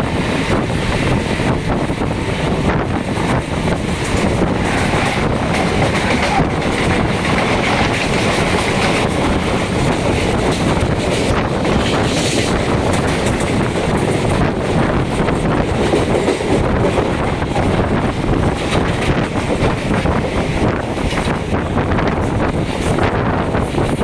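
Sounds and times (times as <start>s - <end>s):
train wheels rumbling on rails: 0.0s - 24.0s
wind buffeting microphone: 0.0s - 24.0s.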